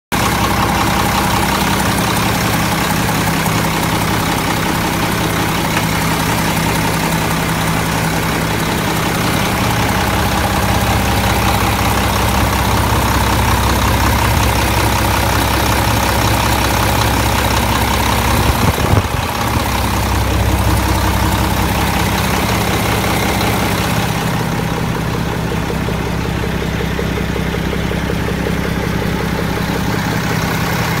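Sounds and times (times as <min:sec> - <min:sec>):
diesel engine idling: 0:00.1 - 0:31.0.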